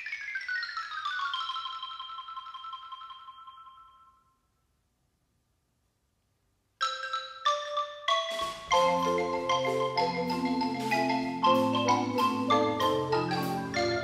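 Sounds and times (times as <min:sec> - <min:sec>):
mallet percussion bell-like notes: 0:00.0 - 0:04.2, 0:06.8 - 0:14.0.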